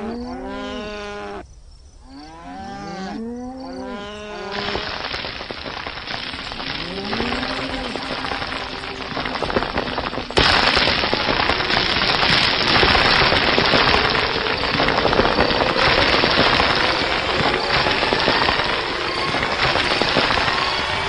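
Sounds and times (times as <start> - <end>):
dense crackling hiss: 0.0 - 21.0.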